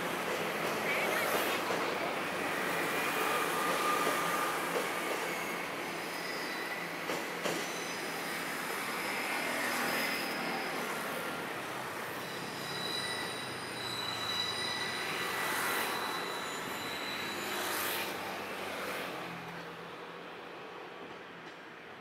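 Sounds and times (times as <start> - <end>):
train rolling noise: 0.0 - 22.0
train wheels squealing: 0.4 - 19.1.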